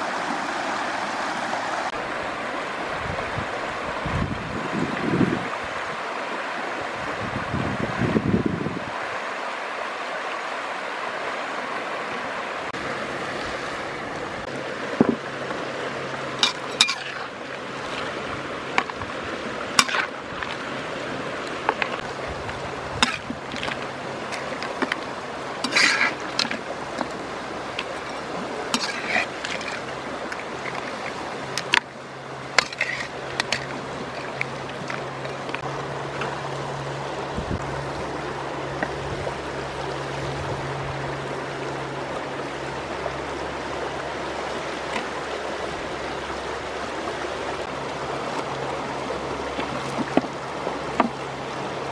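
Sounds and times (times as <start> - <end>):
river rushing: 0.0 - 51.9.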